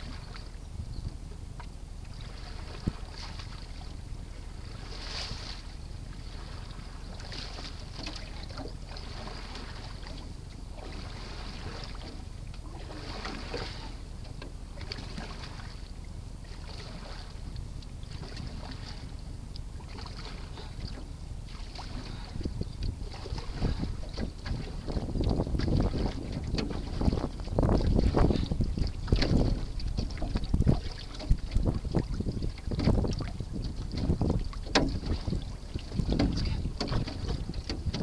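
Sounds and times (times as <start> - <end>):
canoe paddle splashing: 0.0 - 38.0
wind rumble on microphone: 0.0 - 38.0.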